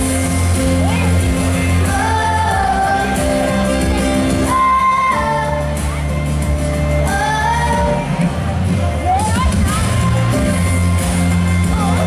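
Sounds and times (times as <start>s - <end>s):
live pop band with strong bass: 0.0s - 12.0s.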